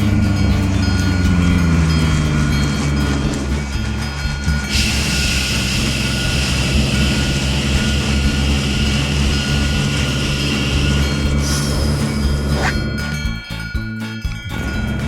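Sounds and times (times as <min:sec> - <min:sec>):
rushing hissing vehicle sound effect: 0:00.0 - 0:13.1
background music with low bass: 0:00.0 - 0:15.0.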